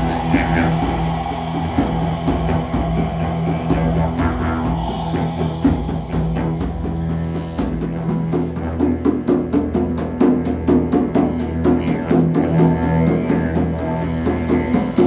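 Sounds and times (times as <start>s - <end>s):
drum beating fast rhythm: 0.0s - 12.7s
didgeridoo drone: 0.0s - 15.0s.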